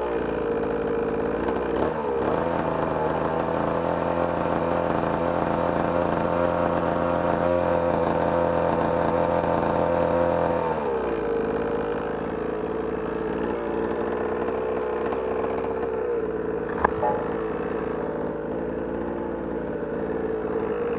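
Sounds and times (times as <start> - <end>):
dirt bike engine running: 0.0 - 20.9.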